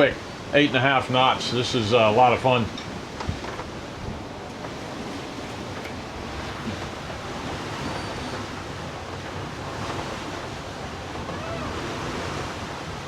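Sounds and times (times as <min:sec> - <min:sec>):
water rushing along hull: 0:00.0 - 0:13.0
wind blowing: 0:01.4 - 0:13.0.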